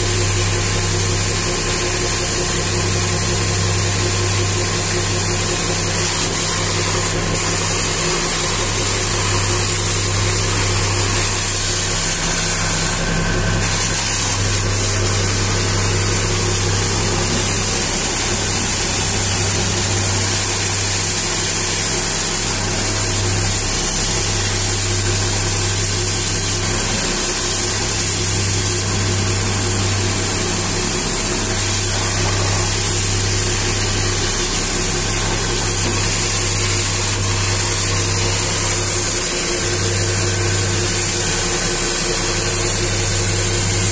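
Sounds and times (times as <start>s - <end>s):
pressure washer motor humming: 0.0s - 43.9s
water jet hissing: 0.0s - 43.9s.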